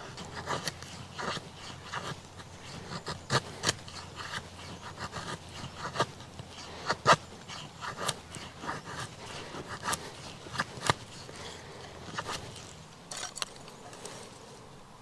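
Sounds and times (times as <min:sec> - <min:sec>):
blade scraping wood: 0:00.0 - 0:14.4.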